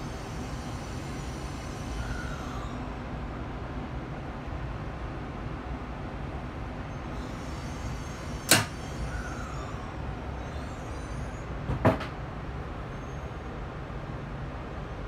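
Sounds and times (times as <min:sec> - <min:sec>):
train interior low rumble: 0:00.0 - 0:15.0.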